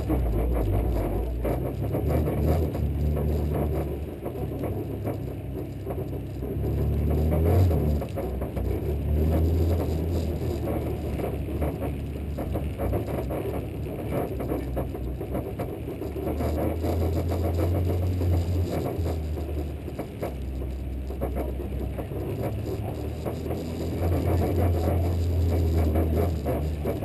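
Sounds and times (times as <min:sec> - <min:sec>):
rally car engine droning: 0:00.0 - 0:27.0.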